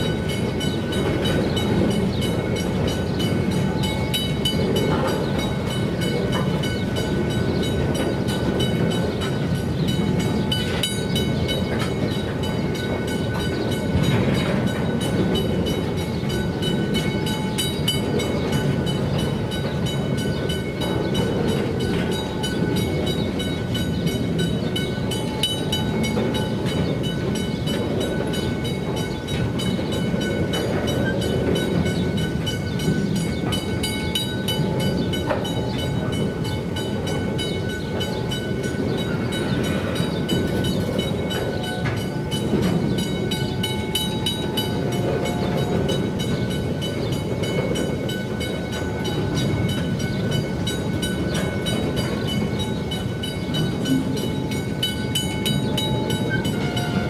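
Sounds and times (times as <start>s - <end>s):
crossing bell ringing: 0.0s - 57.0s
train wheels rumbling on rails: 0.0s - 57.0s.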